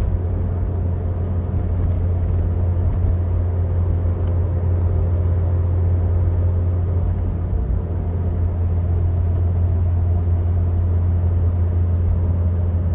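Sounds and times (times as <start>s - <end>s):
road noise: 0.0s - 12.7s
car engine drone: 0.0s - 12.9s.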